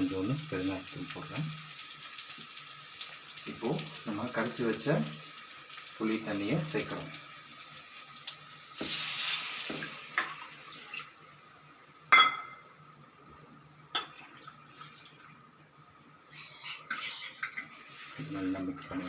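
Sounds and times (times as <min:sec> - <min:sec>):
liquid sizzling in a pan: 0:00.0 - 0:19.0.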